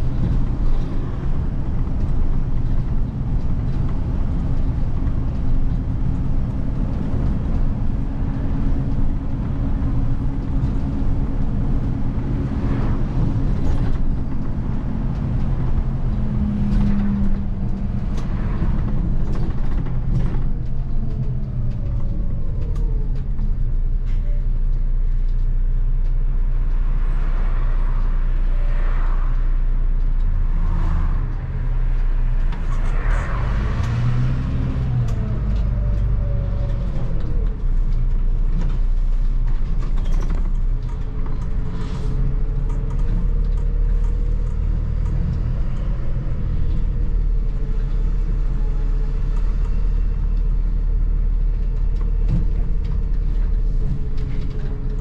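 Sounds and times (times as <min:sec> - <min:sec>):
bus engine running: 0:00.0 - 0:55.0
road noise: 0:00.0 - 0:55.0.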